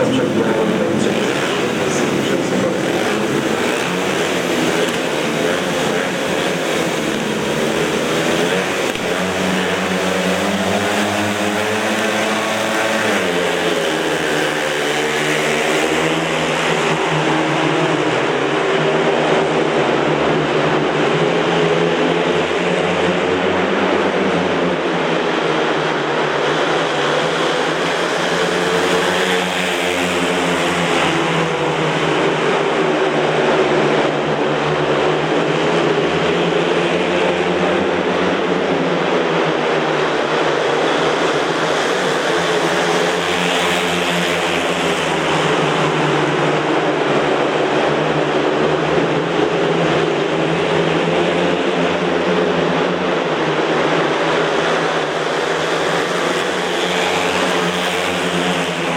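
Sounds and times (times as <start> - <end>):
motorcycles racing: 0.0 - 58.9.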